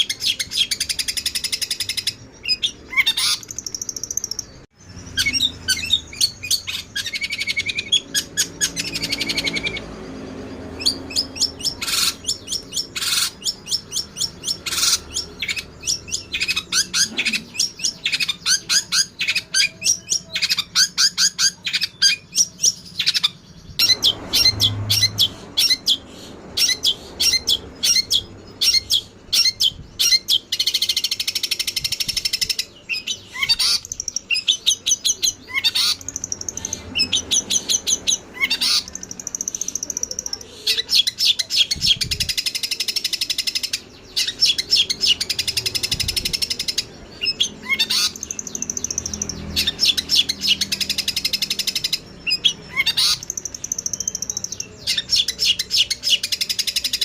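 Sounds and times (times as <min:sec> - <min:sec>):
sparrows chirping and chattering: 0:00.0 - 0:57.0.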